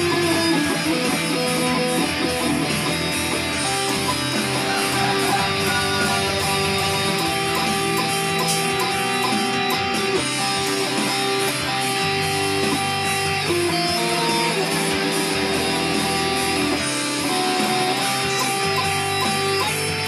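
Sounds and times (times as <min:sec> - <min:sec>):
bass line: 0:00.0 - 0:17.0
ballad backing track: 0:00.0 - 0:20.0
electric guitar melody: 0:00.0 - 0:20.0.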